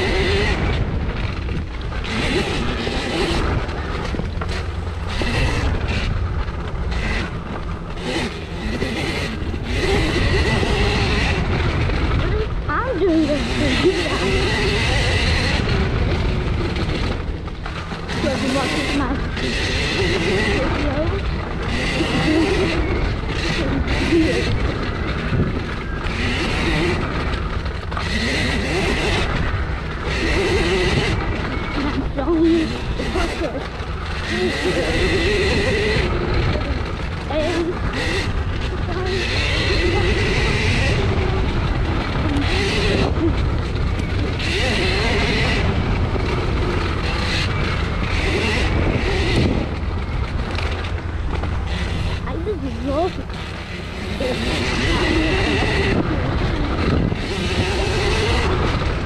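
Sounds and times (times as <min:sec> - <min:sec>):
electric motor whining: 0:00.0 - 0:59.0
rushing noise of riding: 0:00.0 - 0:59.0
tyres on dirt: 0:00.0 - 0:59.0
wind on microphone: 0:00.0 - 0:59.0.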